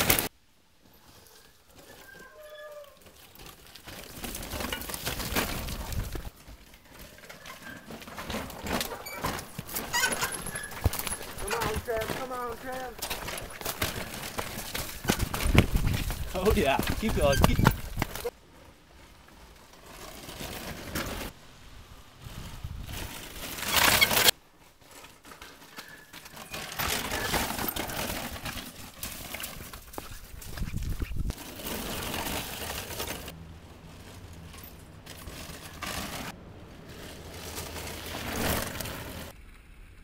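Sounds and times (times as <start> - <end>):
bike tyres crunching over gravel: 0.0 - 39.5.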